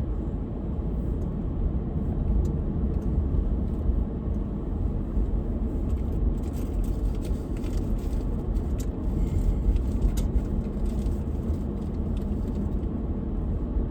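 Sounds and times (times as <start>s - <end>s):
car interior road noise: 0.0s - 13.9s.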